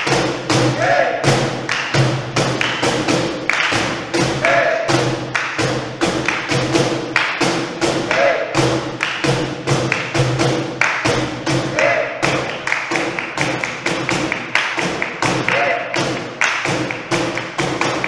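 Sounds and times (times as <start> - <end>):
box drum hand slaps: 0.0 - 18.0.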